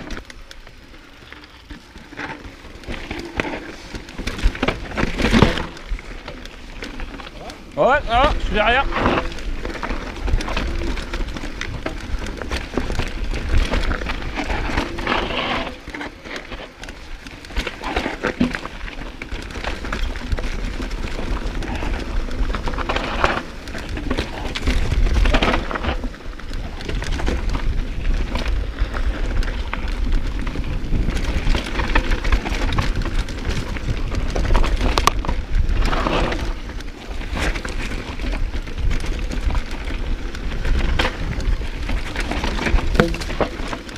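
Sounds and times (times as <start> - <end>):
bike rattling over bumps: 0.0 - 43.9
tyres crunching over stones: 0.0 - 43.9.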